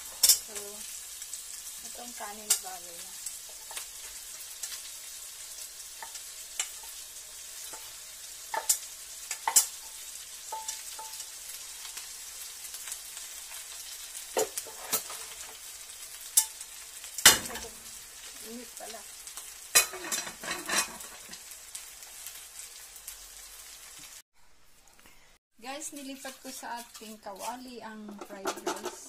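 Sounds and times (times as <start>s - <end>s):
sausage sizzling in pot: 0.0s - 29.0s.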